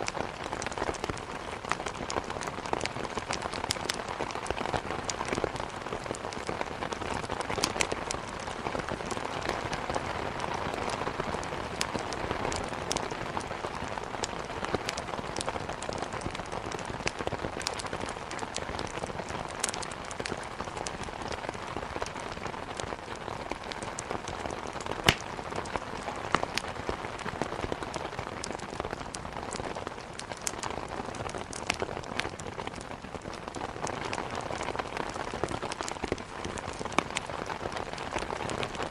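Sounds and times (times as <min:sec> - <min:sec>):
burning firewood popping and crackling: 0:00.0 - 0:38.9.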